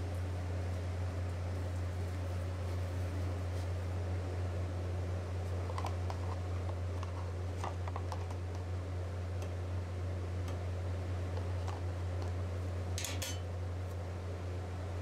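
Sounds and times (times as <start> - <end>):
refrigeration unit humming: 0.0 - 15.0.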